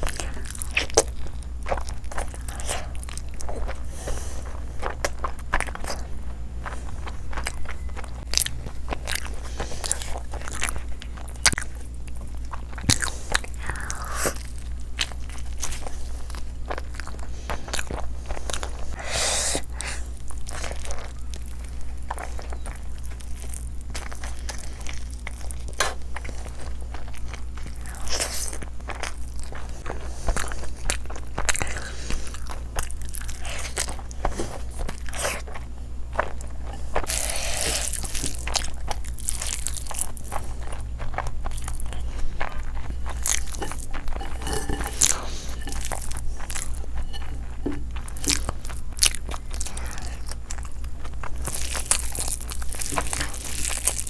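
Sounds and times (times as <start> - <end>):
low hum: 0.0 - 54.0
person chewing with wet smacks: 0.0 - 54.0.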